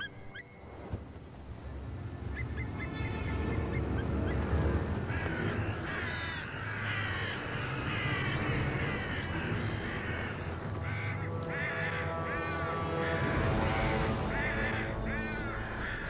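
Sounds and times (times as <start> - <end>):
low rumble: 0.6 - 16.0
crows cawing: 2.4 - 16.0.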